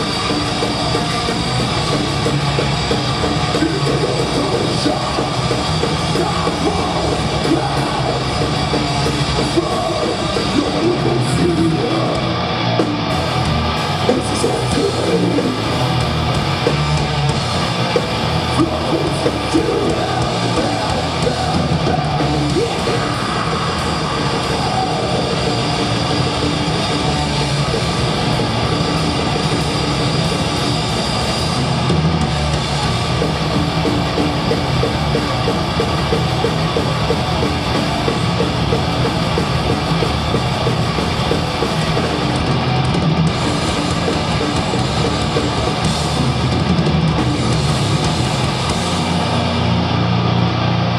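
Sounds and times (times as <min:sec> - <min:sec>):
death metal band playing live: 0:00.0 - 0:50.9.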